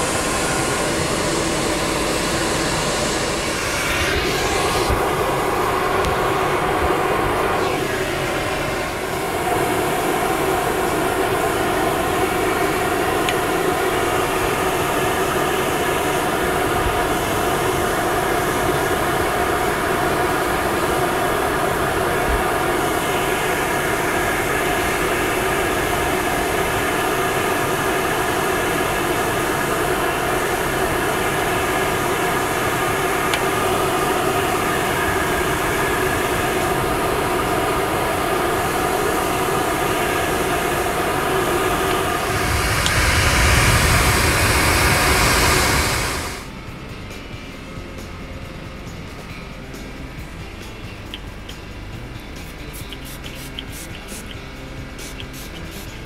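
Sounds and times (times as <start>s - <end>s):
dog dryer whining and blowing: 0.0s - 46.5s.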